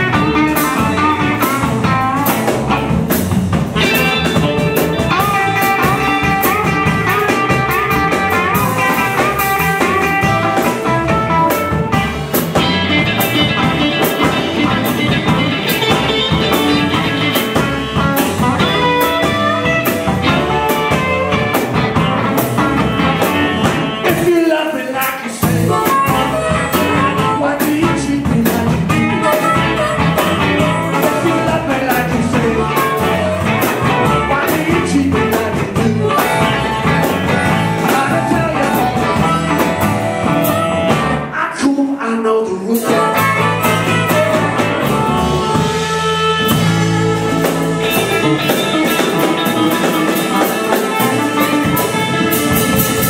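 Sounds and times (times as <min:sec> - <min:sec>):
drum kit: 0:00.0 - 0:41.4, 0:42.7 - 0:53.0
electric guitars: 0:00.0 - 0:41.4, 0:42.7 - 0:53.0
saxophone: 0:03.8 - 0:24.2, 0:25.5 - 0:27.6, 0:28.9 - 0:41.4, 0:42.8 - 0:53.0.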